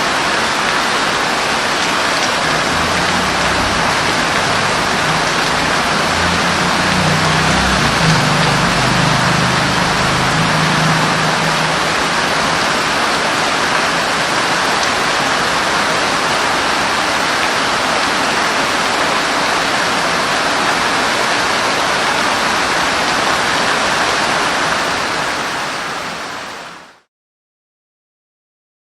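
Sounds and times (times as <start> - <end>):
heavy rain: 0.0 - 27.1.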